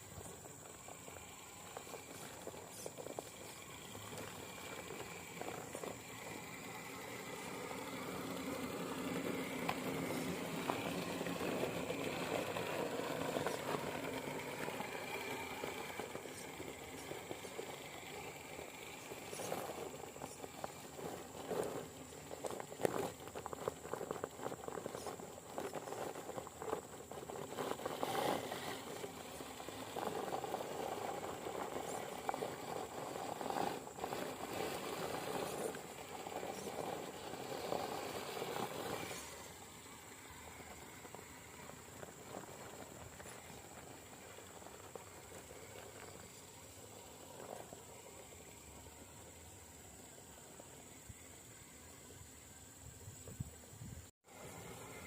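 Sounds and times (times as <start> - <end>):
toy truck motor whining: 0.0 - 52.6.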